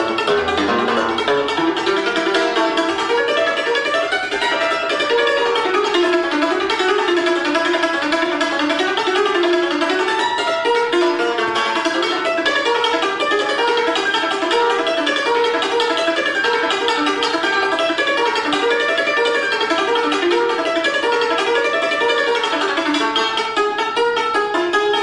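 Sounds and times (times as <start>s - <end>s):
cimbalom played with hammers: 0.0s - 25.0s.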